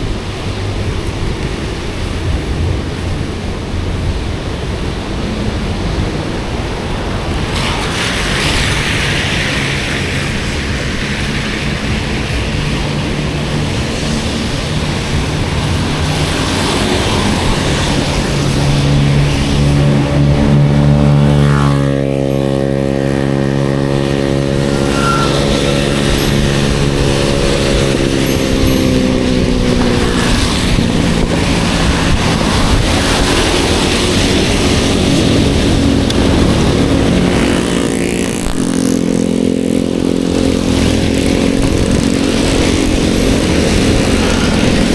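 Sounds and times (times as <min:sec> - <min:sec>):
wind and road rush: 0:00.0 - 0:44.9
vehicle engine passing by: 0:01.9 - 0:44.9.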